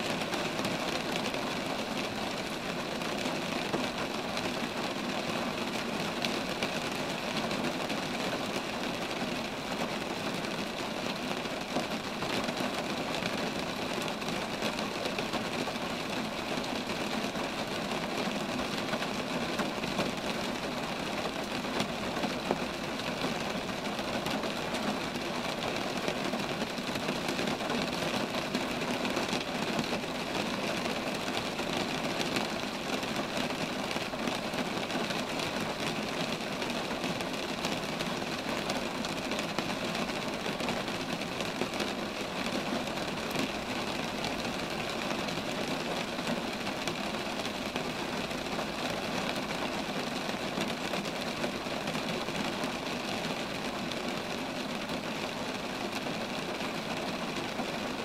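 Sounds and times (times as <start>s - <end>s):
steady rain on trees: 0.0s - 58.0s.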